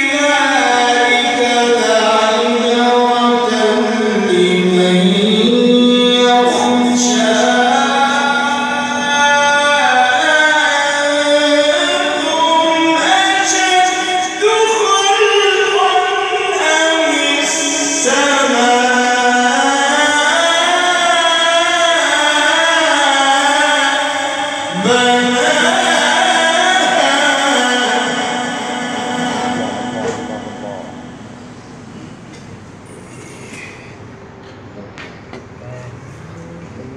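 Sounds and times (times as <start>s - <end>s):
man reciting in melodic chant: 0.0s - 33.9s, 34.7s - 36.9s.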